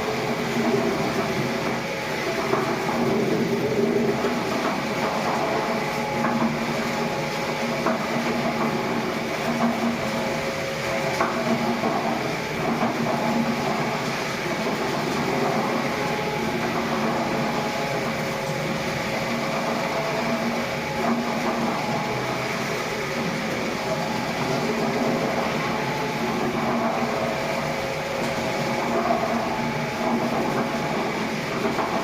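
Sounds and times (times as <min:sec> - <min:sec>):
steady machine noise: 0:00.0 - 0:32.0.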